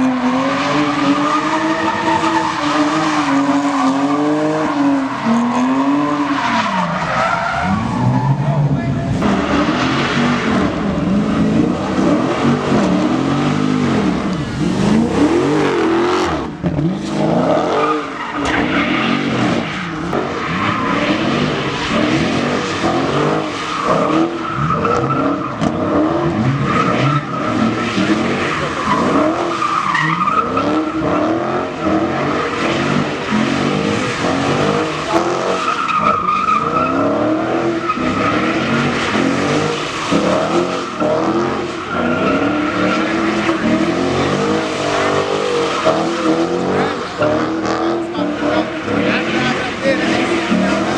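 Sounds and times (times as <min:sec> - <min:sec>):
engines revving: 0:00.0 - 0:50.9.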